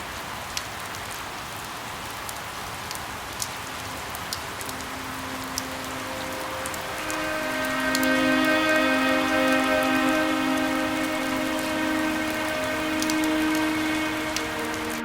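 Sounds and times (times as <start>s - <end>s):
raindrops spattering: 0.0s - 15.0s
steady rain hiss: 0.0s - 15.0s.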